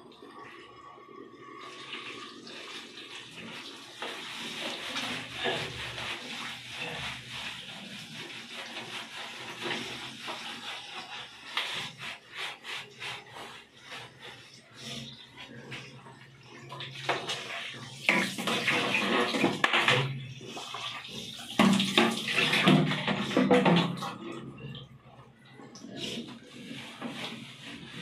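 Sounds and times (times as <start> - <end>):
hands scrubbing wet dog coat: 2.1 - 24.0, 25.8 - 28.0.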